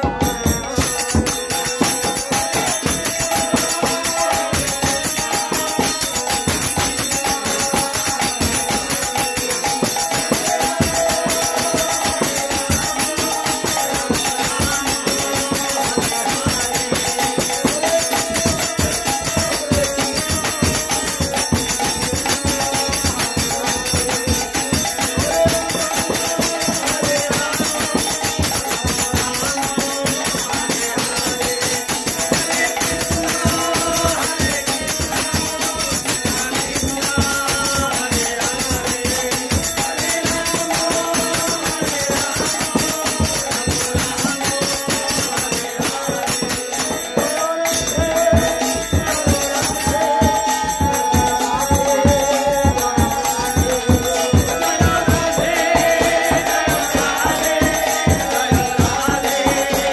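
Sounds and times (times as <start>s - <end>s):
man singing devotional chant: 0.0s - 59.9s.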